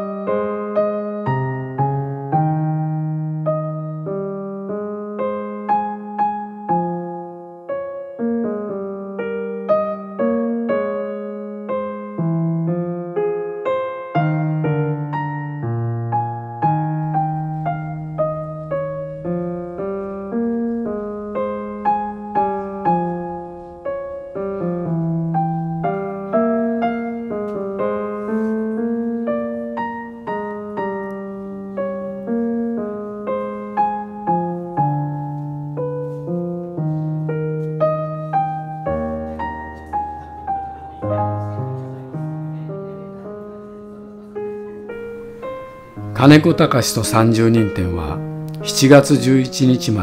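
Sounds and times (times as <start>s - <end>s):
calm piano music: 0.0s - 50.0s.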